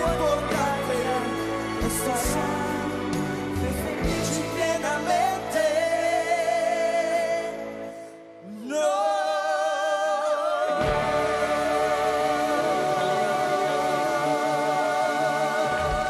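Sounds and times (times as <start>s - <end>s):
band backing music: 0.0s - 8.0s, 10.8s - 16.0s
pop ballad duet singing: 0.0s - 16.0s.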